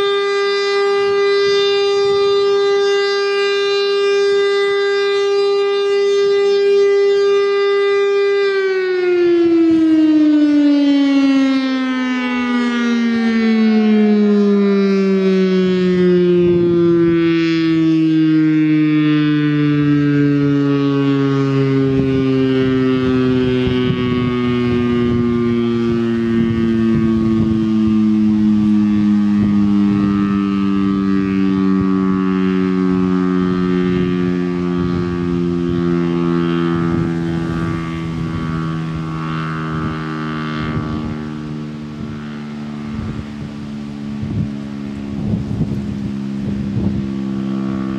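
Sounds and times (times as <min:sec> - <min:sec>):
warning siren winding down: 0:00.0 - 0:47.9
wind buffeting microphone: 0:05.4 - 0:19.3, 0:20.4 - 0:47.9.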